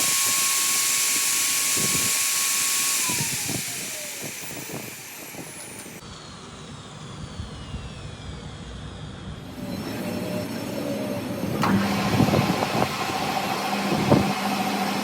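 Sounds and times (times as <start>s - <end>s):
power tool running and winding down: 0.0s - 15.0s.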